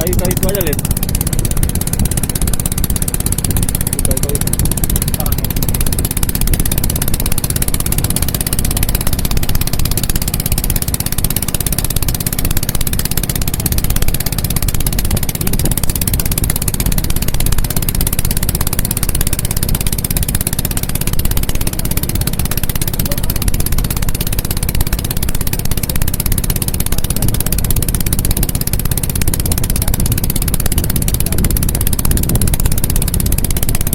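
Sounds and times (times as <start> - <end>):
small boat engine running: 0.0 - 33.9.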